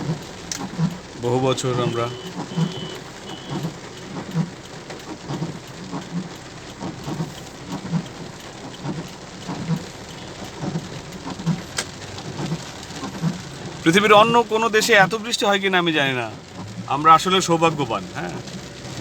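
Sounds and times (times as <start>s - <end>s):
heavy rain on a car: 0.0s - 19.0s
low thuds of raindrops: 0.0s - 19.0s.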